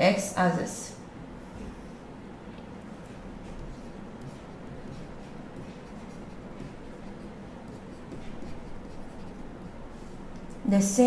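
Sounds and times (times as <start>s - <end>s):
low room hum: 0.0s - 11.0s
stylus scratching and tapping: 1.6s - 10.6s.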